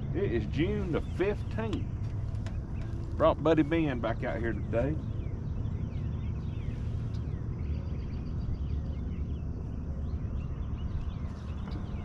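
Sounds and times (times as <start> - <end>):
birds chirping and singing: 0.0 - 12.0
steady low rumble: 0.0 - 12.0.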